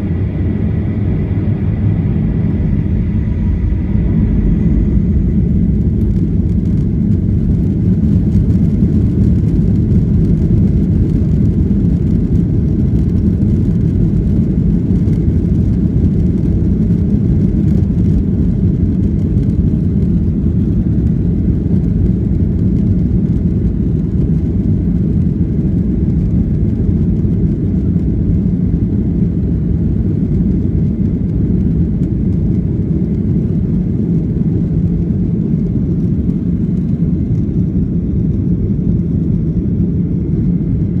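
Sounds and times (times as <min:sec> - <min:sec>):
airplane cabin engine rumble: 0:00.0 - 0:41.0.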